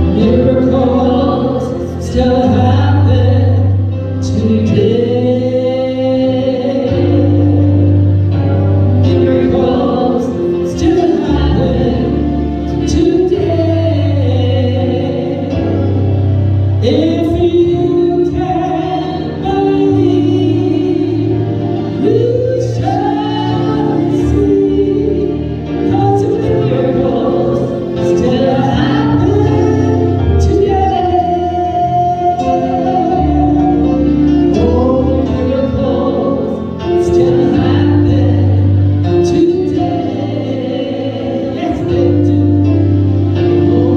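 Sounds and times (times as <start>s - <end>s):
gospel choir singing with band: 0.0s - 43.9s
steady bass line: 0.0s - 43.9s.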